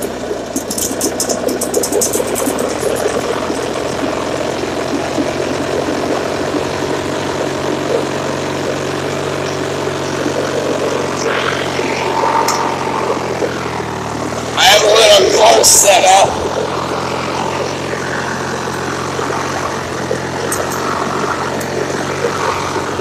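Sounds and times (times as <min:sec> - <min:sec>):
lawn tractor engine running: 0:00.0 - 0:23.0.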